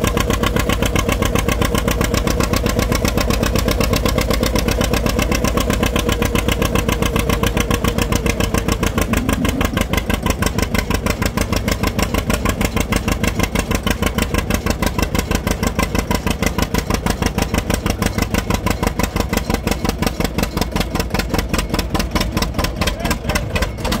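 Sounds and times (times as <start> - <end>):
tractor engine popping: 0.0 - 24.0.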